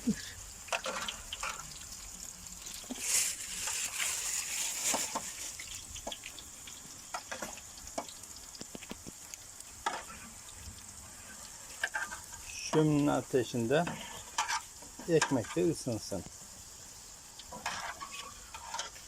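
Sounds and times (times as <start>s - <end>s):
oil popping and crackling: 0.0s - 19.0s
potatoes sizzling in oil: 0.0s - 19.0s.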